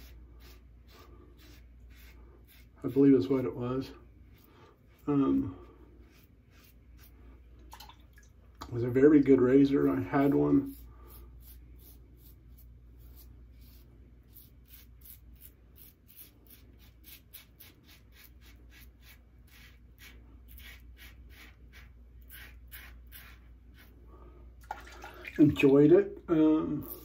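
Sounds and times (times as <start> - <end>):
razor scraping stubble: 0.0 - 7.2, 9.5 - 24.0.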